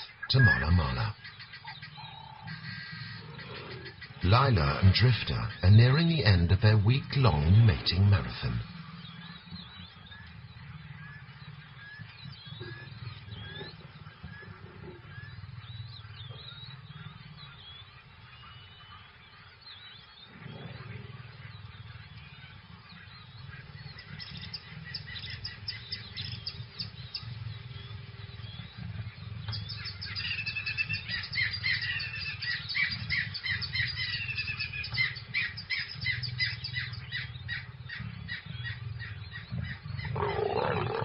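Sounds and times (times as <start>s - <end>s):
birds squawking: 0.0s - 41.0s
low ambient rumble: 0.0s - 41.0s.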